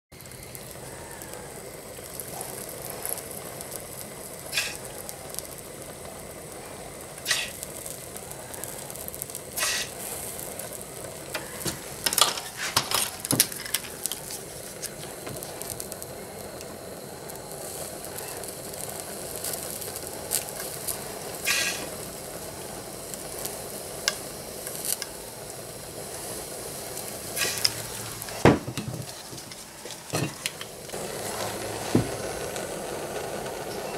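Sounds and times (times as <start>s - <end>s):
flux sizzling: 0.1s - 33.9s
sharp crackles: 0.1s - 33.9s.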